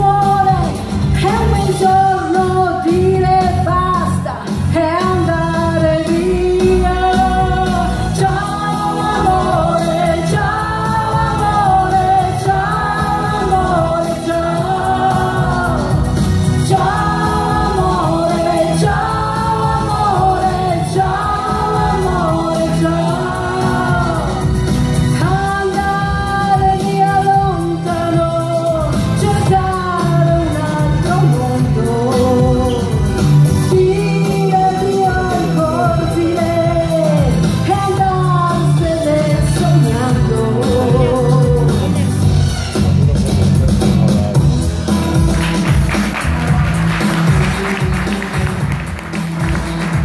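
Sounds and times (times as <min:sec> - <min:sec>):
live band playing: 0:00.0 - 0:50.0.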